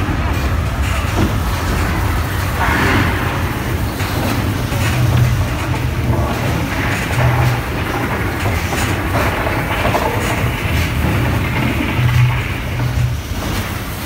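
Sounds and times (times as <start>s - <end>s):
continuous rumbling and rattling: 0.0s - 14.0s.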